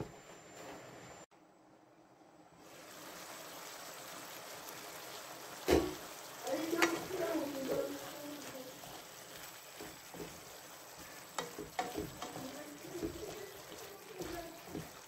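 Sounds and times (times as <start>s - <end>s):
vegetables simmering in a frying pan: 2.5s - 15.0s
wooden spoon stirring vegetables: 2.8s - 15.0s.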